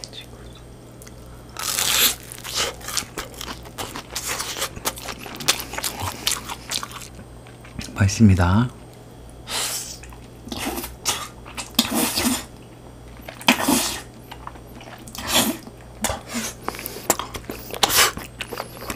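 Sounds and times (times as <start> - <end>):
chewing: 1.0 - 8.0, 10.0 - 18.9.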